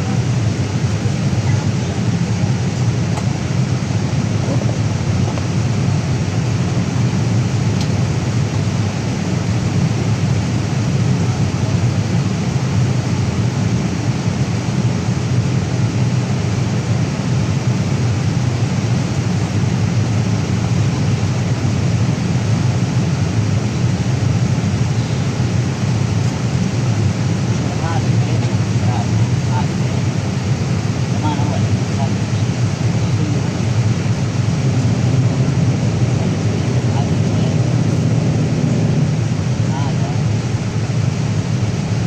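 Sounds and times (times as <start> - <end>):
airplane cabin airflow and engine drone: 0.0 - 42.0.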